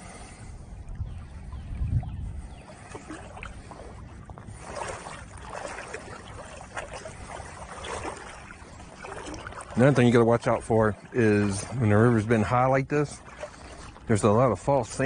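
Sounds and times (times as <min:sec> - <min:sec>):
water splashing around wading legs: 0:00.8 - 0:15.0.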